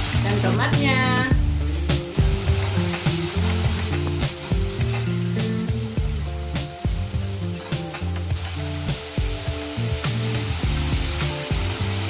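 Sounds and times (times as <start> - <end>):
background music: 0.0 - 12.0
vegetables sizzling in a pan: 0.0 - 12.0.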